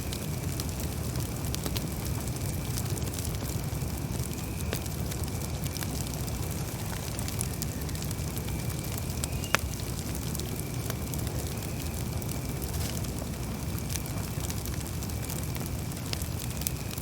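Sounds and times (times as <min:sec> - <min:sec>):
campfire flames rumbling: 0:00.0 - 0:17.0
fire crackling and popping: 0:00.0 - 0:17.0.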